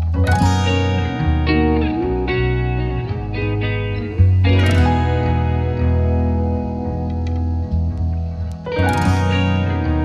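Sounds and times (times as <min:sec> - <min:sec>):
plucked guitar notes: 0:00.0 - 0:10.0.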